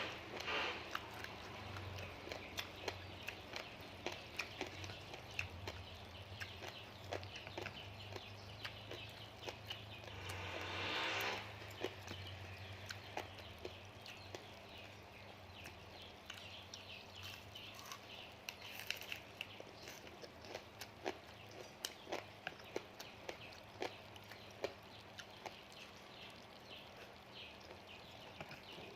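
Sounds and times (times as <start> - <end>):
crunchy food being chewed: 0.0 - 28.9.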